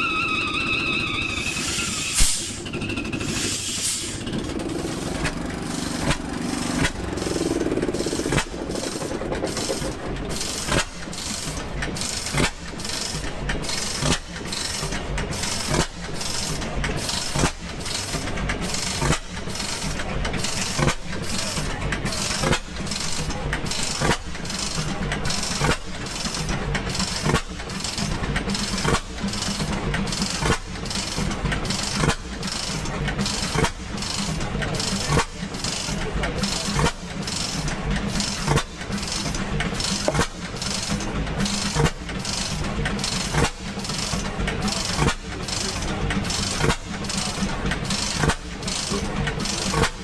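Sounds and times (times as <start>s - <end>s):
engine knocks: 0.0s - 50.0s
gas engine slow firing strokes: 0.0s - 50.0s.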